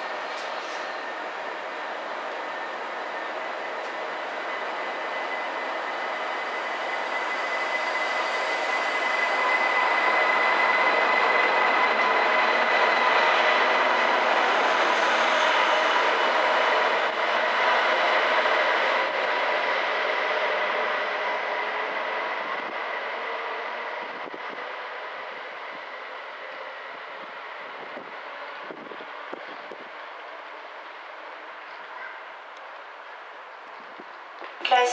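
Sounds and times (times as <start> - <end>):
electric train whine: 0.0 - 34.9
train rolling noise: 0.0 - 34.9.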